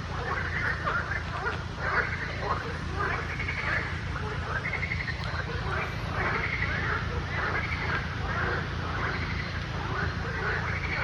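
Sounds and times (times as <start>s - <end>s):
animals giving pulsed calls: 0.0s - 11.0s
steady low rumble: 0.0s - 11.0s.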